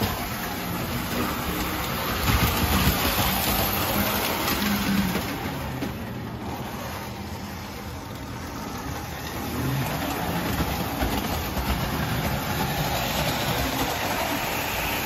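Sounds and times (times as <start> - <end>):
model trains rumbling on rails: 0.0 - 15.0.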